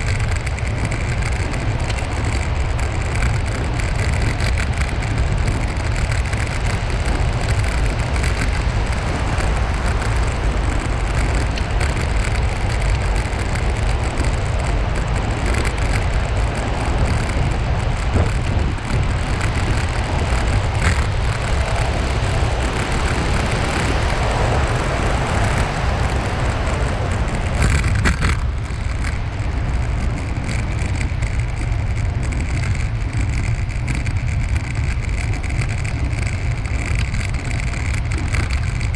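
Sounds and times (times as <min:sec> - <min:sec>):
bicycle tyre noise on pavement: 0:00.0 - 0:38.9
wind rushing over microphone: 0:00.0 - 0:38.9.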